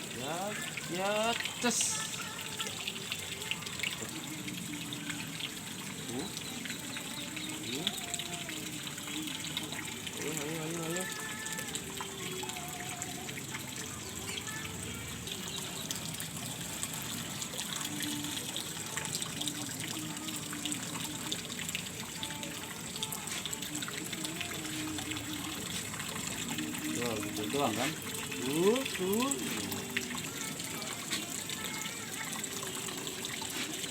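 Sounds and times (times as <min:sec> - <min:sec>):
water running and trickling: 0:00.0 - 0:33.9.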